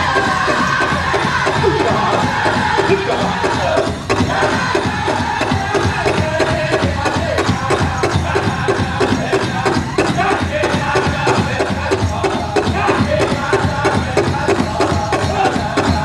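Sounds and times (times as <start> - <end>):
group singing a chorus: 0.0 - 16.0
large drum beating fast: 0.0 - 16.0.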